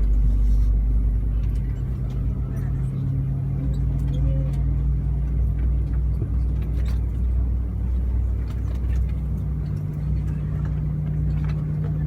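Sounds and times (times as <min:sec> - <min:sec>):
low aircraft cabin drone: 0:00.0 - 0:12.0.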